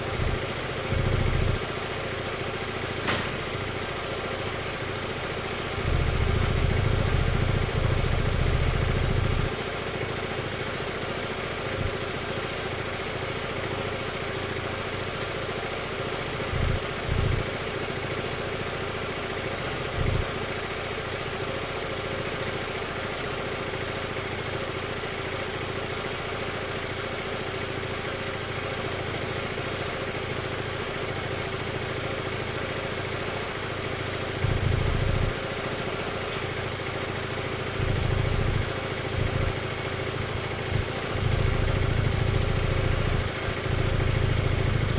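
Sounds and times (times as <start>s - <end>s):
scooter engine idling: 0.0s - 44.9s.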